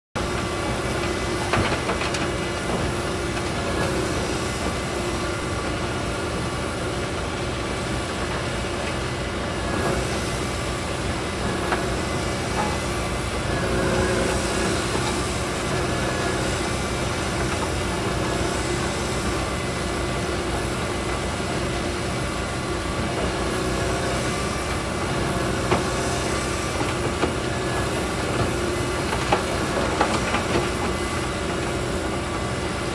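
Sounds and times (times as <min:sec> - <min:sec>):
mobile crusher running: 0:00.2 - 0:32.9.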